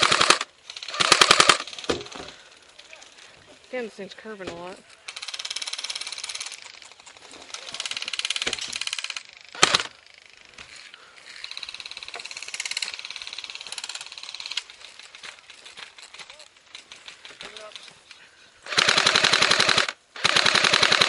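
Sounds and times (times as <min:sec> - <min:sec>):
airsoft guns full-auto clicking: 0:00.0 - 0:02.9, 0:04.9 - 0:21.0.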